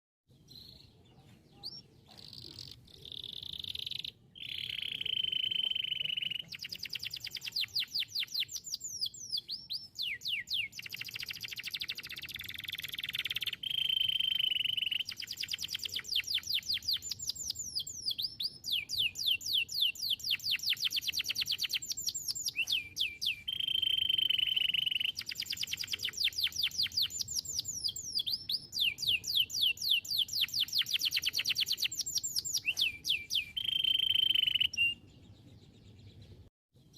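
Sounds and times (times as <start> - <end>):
canary singing: 0.3 - 36.9.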